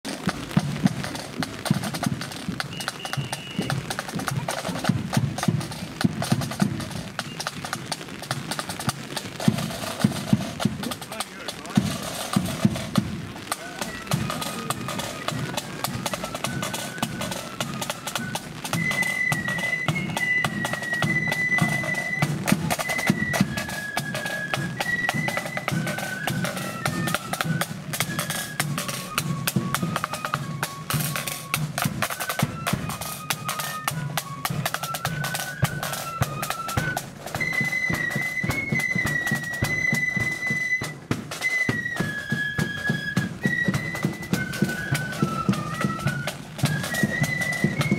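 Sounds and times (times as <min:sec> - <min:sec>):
snare drums rattling: 0:00.0 - 0:47.9
high flute melody: 0:00.1 - 0:47.9.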